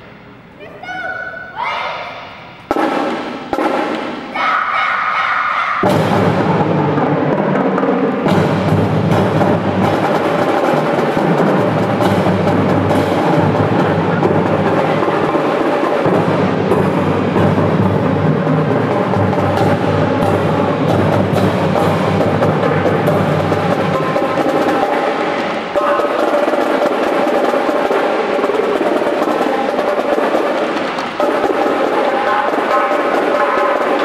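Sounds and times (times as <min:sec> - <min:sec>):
snare drums: 0:01.9 - 0:34.0
bass drums: 0:05.8 - 0:34.0.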